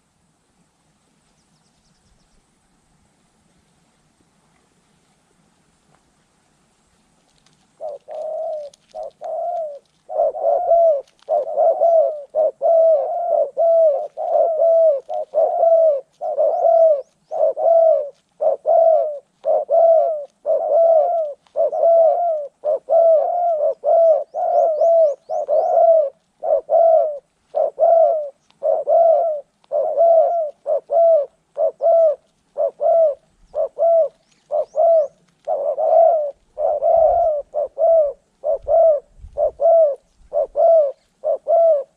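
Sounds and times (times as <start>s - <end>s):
dove cooing: 7.4s - 41.9s.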